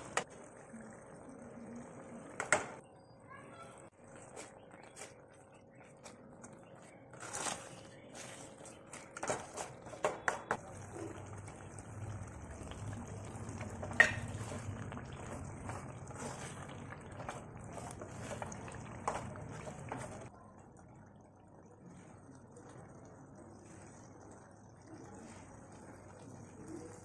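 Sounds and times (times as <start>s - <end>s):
gravy bubbling: 0.0s - 27.0s.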